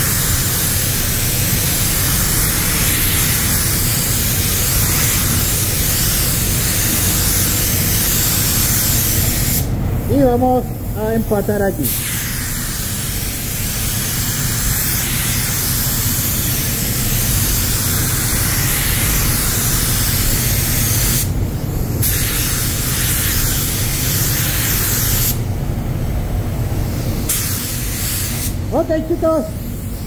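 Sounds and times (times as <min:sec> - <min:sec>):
spray gun hissing: 0:00.0 - 0:25.4, 0:26.9 - 0:30.0.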